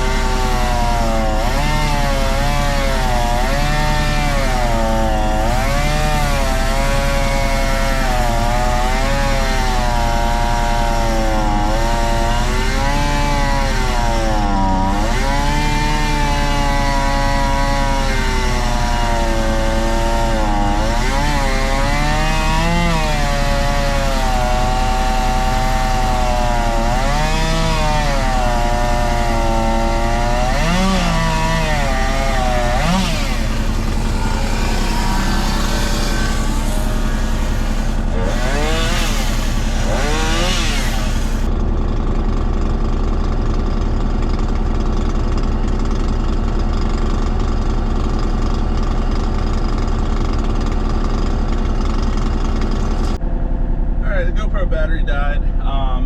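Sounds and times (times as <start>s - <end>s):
chainsaw cutting wood: 0.0s - 53.2s.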